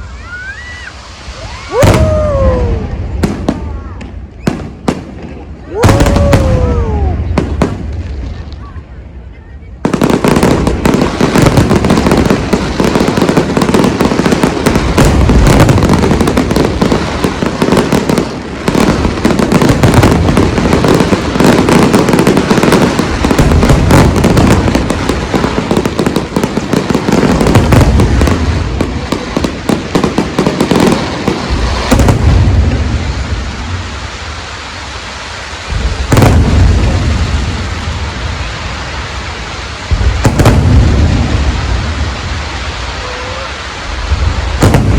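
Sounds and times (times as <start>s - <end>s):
loud firework bangs: 0.7s - 8.8s, 9.8s - 44.9s.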